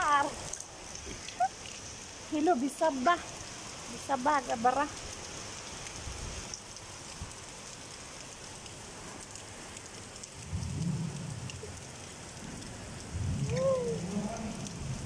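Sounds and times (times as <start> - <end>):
rain on wet paving: 0.0 - 15.0.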